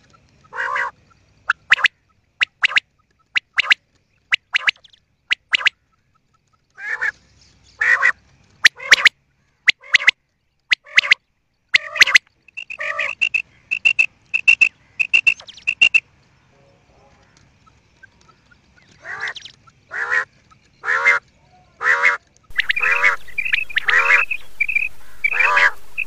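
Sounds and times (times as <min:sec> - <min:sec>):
quail calling: 0:00.0 - 0:05.8, 0:06.8 - 0:07.2, 0:07.8 - 0:16.1, 0:17.2 - 0:26.0.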